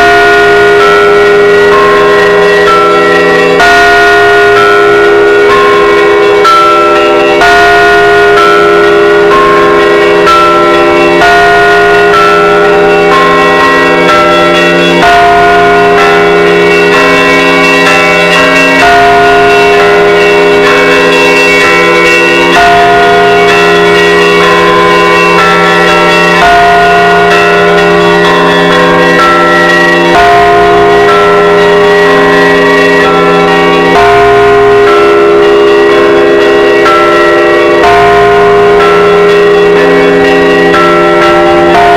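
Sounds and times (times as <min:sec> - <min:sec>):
heavy bell tolling: 0:00.0 - 0:41.9
middle church bells: 0:00.0 - 0:41.9
small church bells ringing quickly: 0:00.0 - 0:41.9.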